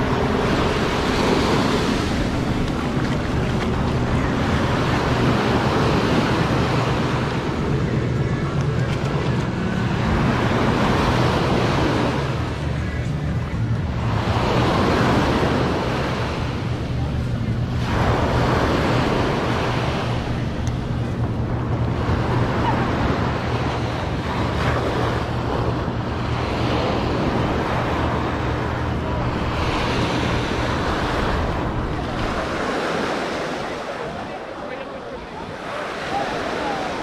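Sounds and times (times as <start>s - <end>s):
steady low hum: 0.0s - 34.0s
wind buffeting microphone: 0.0s - 34.4s
ocean surf washing onto beach: 0.0s - 37.0s.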